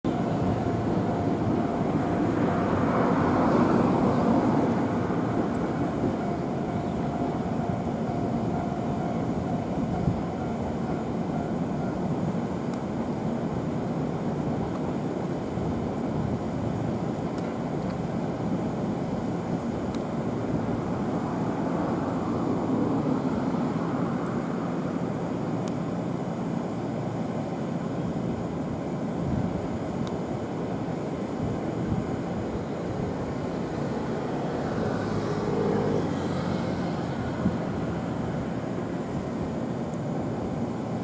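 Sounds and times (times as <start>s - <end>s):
faint constant hum: 0.0s - 41.0s
rail yard mechanical rumble: 0.0s - 41.0s.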